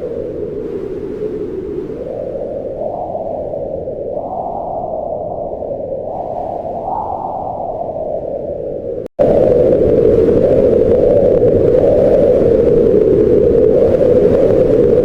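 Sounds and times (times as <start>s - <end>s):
wind whooshing in gusts: 0.0s - 15.0s.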